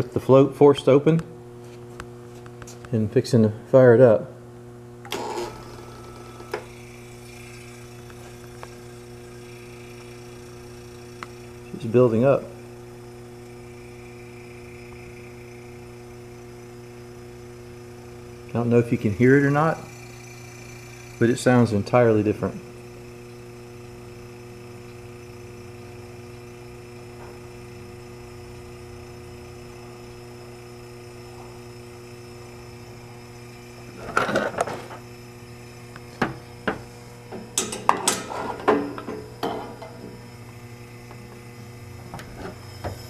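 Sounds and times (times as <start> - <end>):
refrigerator compressor humming: 0.0 - 43.0.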